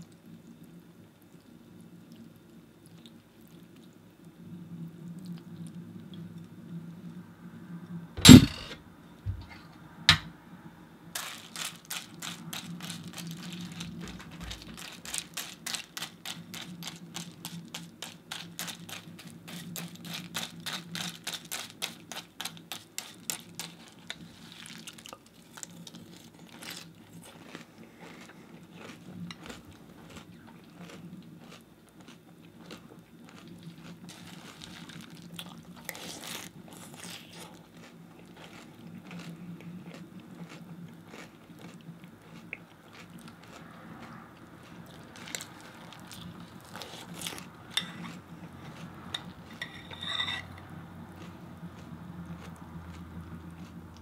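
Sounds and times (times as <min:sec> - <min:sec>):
chewing crunchy cereal: 0:00.0 - 0:04.3, 0:11.2 - 0:54.0.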